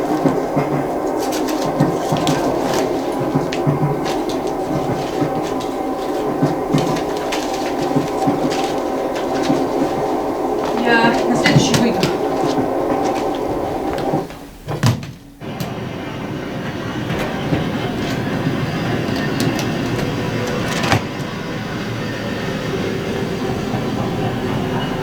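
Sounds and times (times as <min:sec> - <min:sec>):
railway carriage rumbling and rattling: 0:00.0 - 0:25.0.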